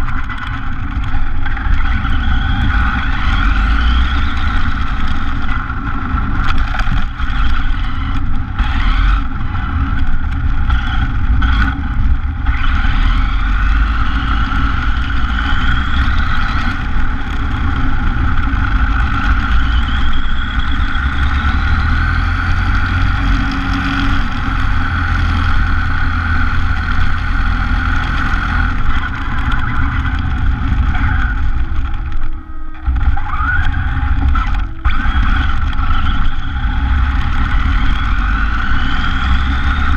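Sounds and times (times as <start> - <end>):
rc car motor whine: 0.0 - 39.9.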